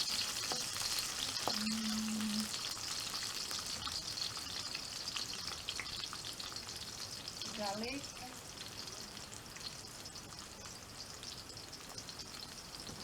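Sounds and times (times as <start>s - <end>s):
hot oil sizzling in a pan: 0.0s - 13.0s.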